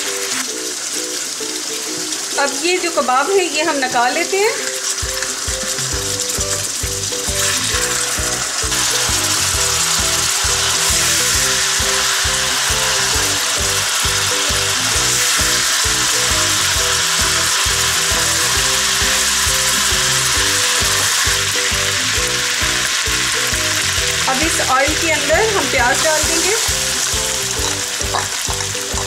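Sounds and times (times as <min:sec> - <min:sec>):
kebabs sizzling in hot oil: 0:00.0 - 0:29.0.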